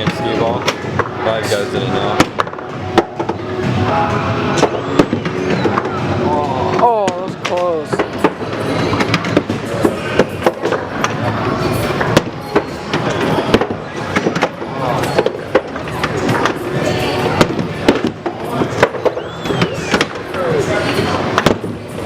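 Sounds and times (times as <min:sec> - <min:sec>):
background music: 0:00.0 - 0:22.0
skee-ball balls clacking: 0:00.0 - 0:22.0.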